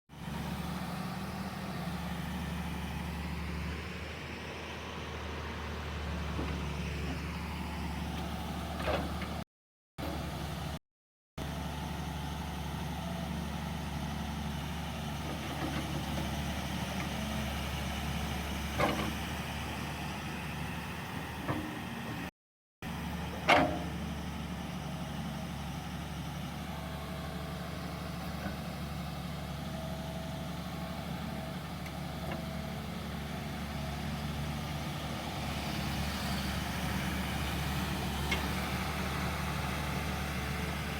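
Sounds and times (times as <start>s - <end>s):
excavator engine running: 0.2s - 9.4s, 11.4s - 22.2s, 22.9s - 40.9s.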